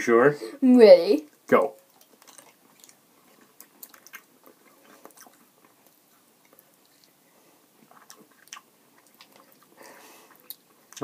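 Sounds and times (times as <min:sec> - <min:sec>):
mouth clicks and smacks: 0:01.3 - 0:07.2, 0:07.8 - 0:11.0.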